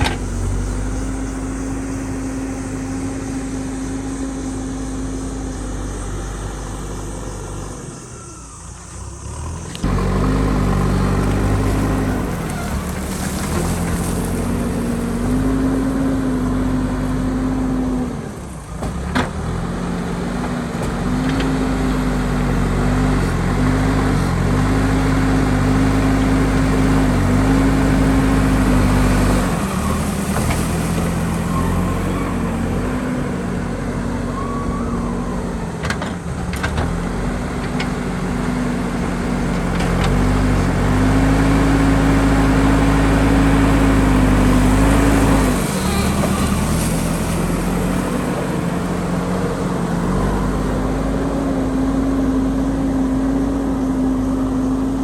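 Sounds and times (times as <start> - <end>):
diesel engine working under load: 0.0 - 55.0.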